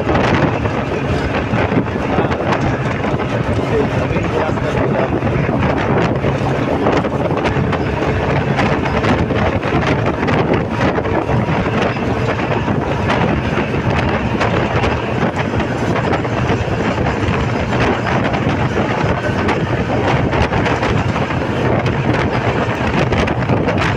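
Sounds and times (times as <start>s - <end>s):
bus tyre and engine rumble: 0.0s - 23.9s
wind buffeting microphone: 0.0s - 23.9s.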